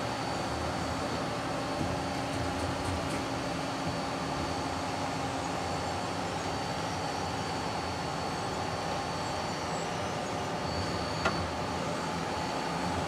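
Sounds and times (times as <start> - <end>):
lathe mechanical hum: 0.0 - 13.0.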